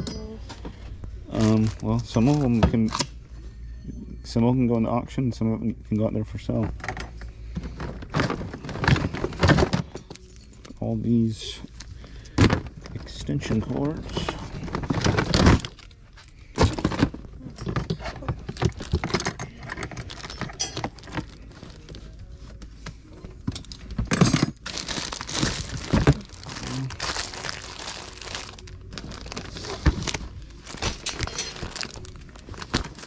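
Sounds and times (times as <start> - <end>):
plastic and cords rustling: 0.5 - 3.1, 5.9 - 33.0.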